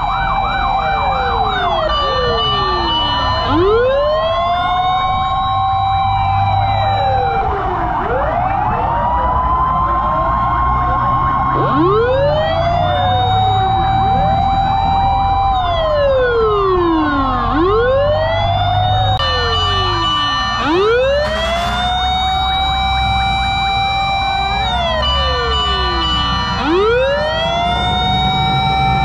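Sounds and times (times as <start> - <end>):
fire truck sirens wailing: 0.0 - 29.0.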